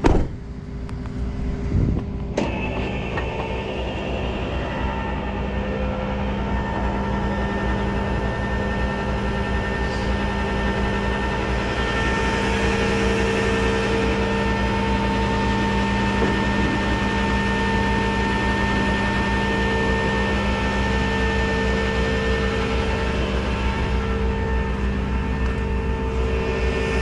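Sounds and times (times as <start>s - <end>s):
vehicle engine running steadily: 0.0s - 27.0s.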